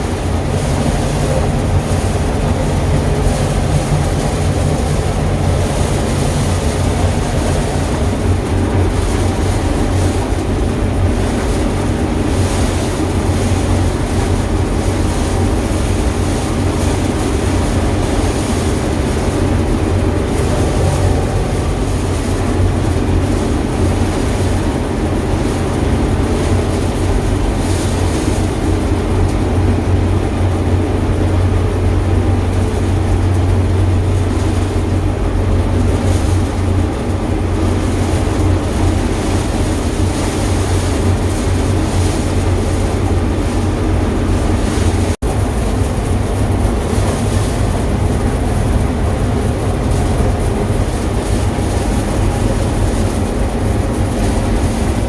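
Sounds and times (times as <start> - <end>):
heavy machinery engine droning: 0.0 - 55.0.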